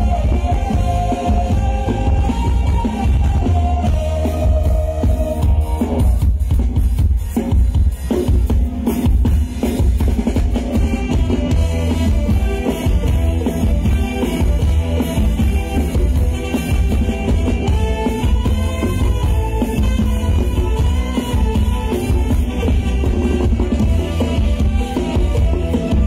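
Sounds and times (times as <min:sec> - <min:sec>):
band playing dance music: 0:00.0 - 0:26.0.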